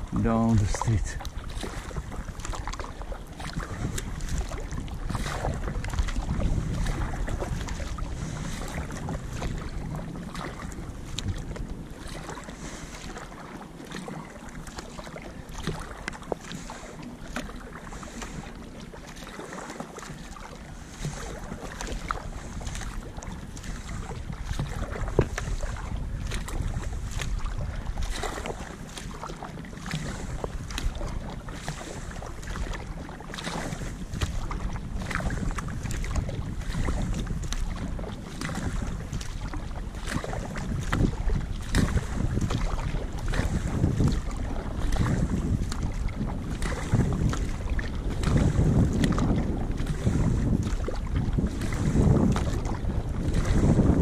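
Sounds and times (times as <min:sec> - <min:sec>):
paddle strokes splashing: 0:00.0 - 0:54.0
water washing along hull: 0:00.0 - 0:54.0
wind rumble on microphone: 0:00.0 - 0:54.0.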